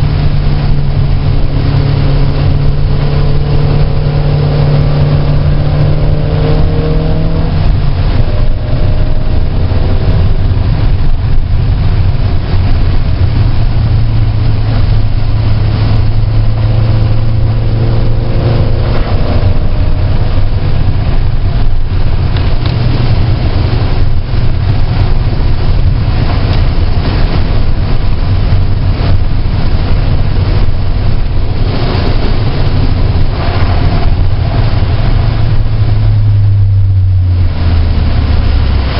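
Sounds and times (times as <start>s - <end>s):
car engine revving with gear changes: 0.0s - 38.9s
wind and tyre noise: 0.0s - 38.9s.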